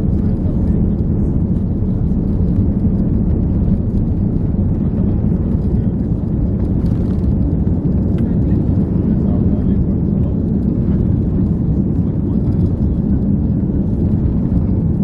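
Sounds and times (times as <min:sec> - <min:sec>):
jet engines low rumble: 0:00.0 - 0:15.0.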